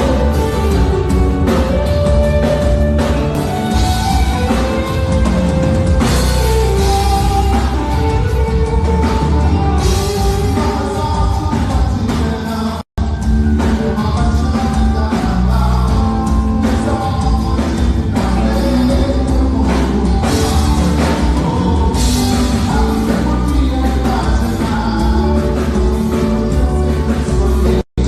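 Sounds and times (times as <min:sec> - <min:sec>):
band playing with singer: 0:00.0 - 0:28.0.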